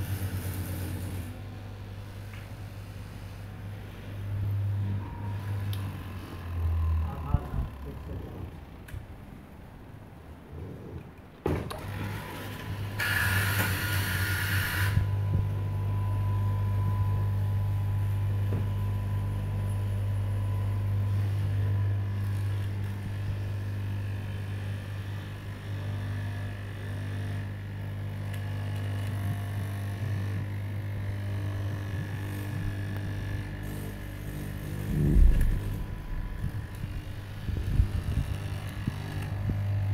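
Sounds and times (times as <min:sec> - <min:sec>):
cutting machine motor hum: 0:00.0 - 0:09.2, 0:11.7 - 0:39.9.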